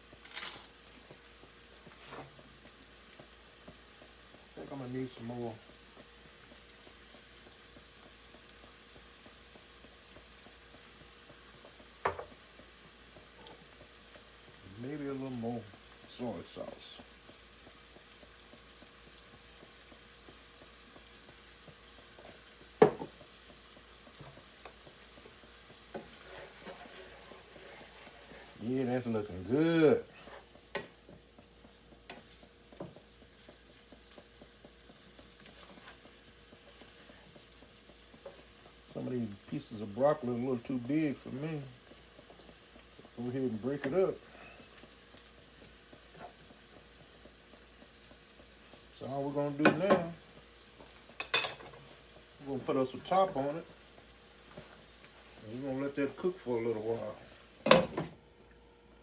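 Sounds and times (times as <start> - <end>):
food sizzling in a skillet: 0.0 - 59.0.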